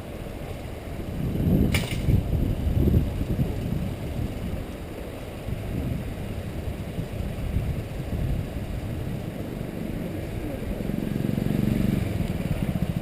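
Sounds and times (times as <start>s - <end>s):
wind buffeting microphone: 0.7s - 13.0s.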